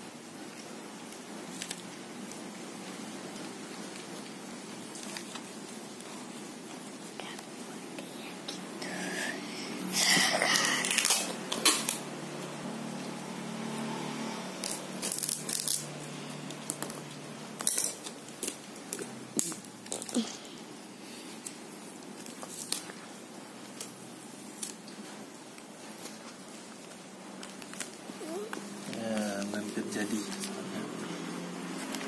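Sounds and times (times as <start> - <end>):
cardboard and packing tape crackling: 0.4 - 8.1, 9.9 - 20.6, 21.2 - 32.0.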